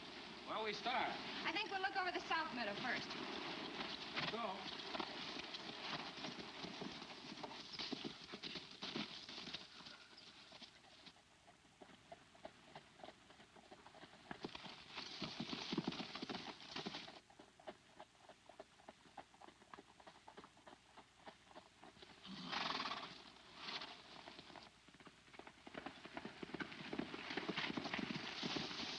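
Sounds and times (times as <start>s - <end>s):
horse hooves clip-clopping: 0.0s - 28.9s.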